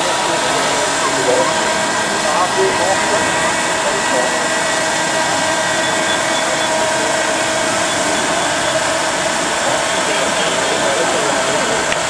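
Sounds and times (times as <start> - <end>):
small electric fan whirring: 0.0 - 12.0.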